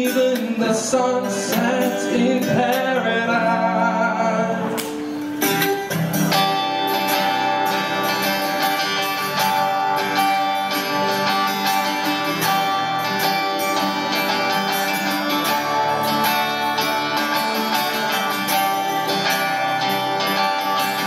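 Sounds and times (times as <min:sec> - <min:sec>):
acoustic guitars strumming: 0:00.0 - 0:21.0.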